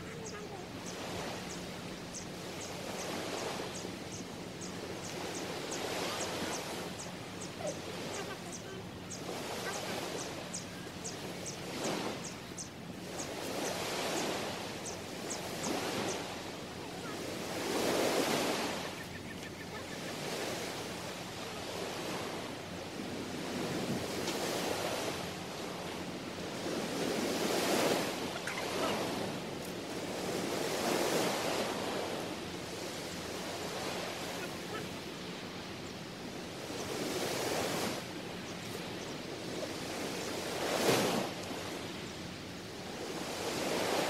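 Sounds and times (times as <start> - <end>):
small waves washing on shore: 0.0 - 44.0.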